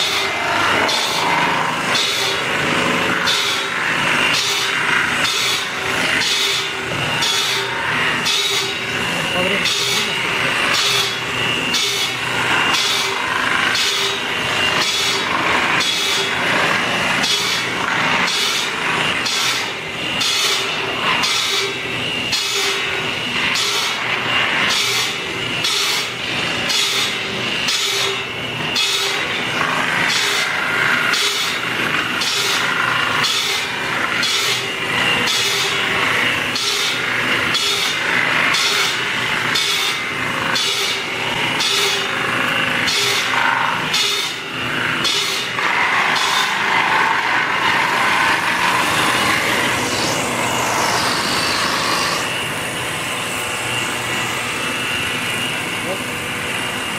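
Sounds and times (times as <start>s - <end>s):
saw cutting through wood: 0.0s - 56.9s.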